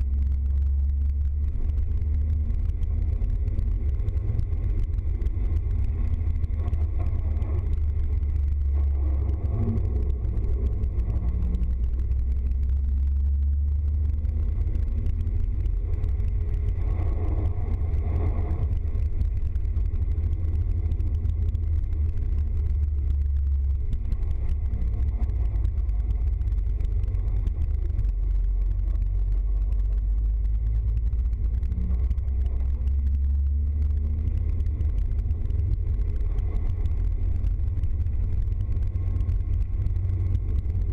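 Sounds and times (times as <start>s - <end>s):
vehicle driving on wet road: 0.0s - 40.9s.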